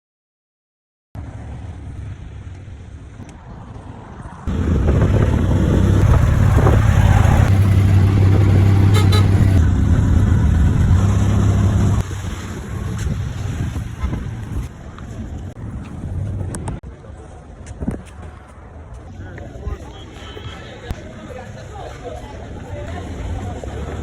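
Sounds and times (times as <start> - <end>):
road noise: 1.2 - 24.0
vehicle engine rumble: 1.2 - 24.0.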